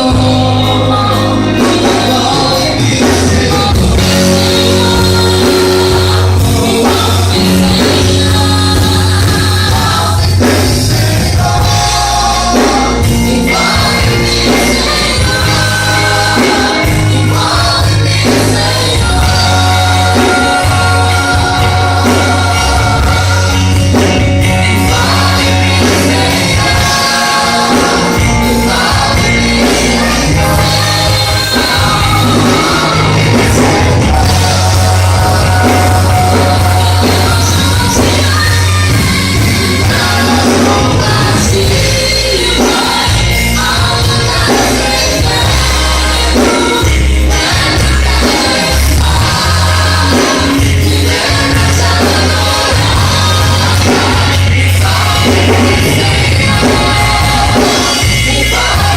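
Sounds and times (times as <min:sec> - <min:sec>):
bass line: 0:00.0 - 0:58.9
choir singing: 0:00.0 - 0:58.9
live band playing: 0:00.0 - 0:58.9.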